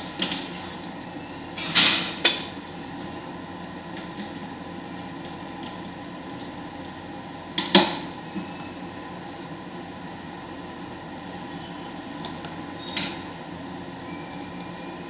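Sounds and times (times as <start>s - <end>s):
lab equipment hum: 0.0s - 15.0s.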